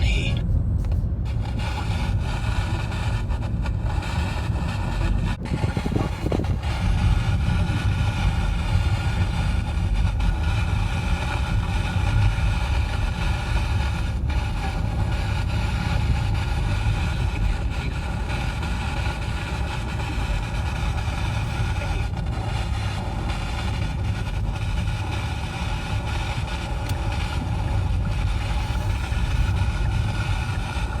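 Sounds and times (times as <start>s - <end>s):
car cabin engine and road rumble: 0.0s - 31.0s.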